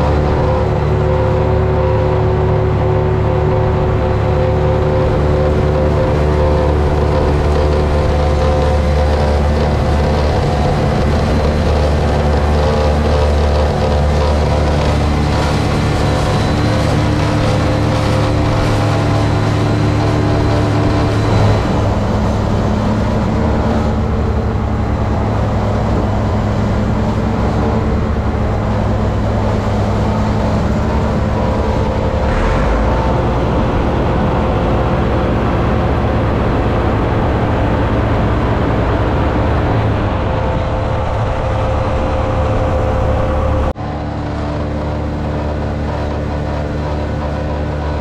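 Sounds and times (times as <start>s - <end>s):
tractor engines running: 0.0s - 48.0s.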